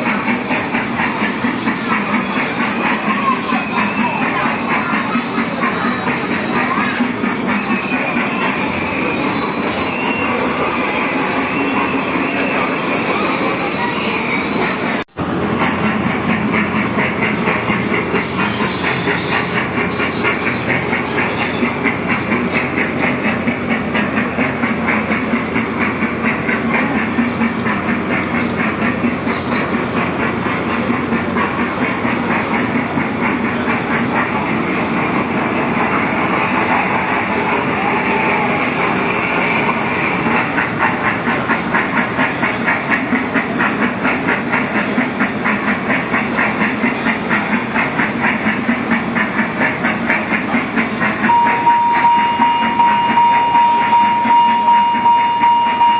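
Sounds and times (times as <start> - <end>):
toy train rhythmic clatter: 0.0 - 55.9.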